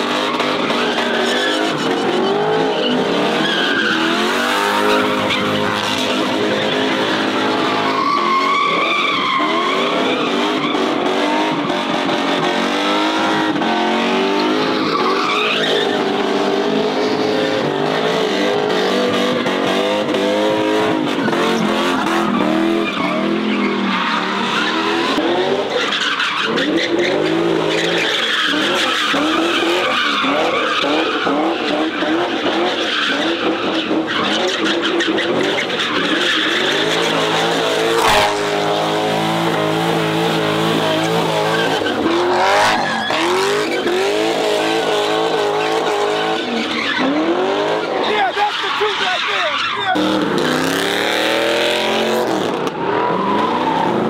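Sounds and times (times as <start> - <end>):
car engine revving: 0.0 - 54.0
tires squealing: 0.0 - 54.0.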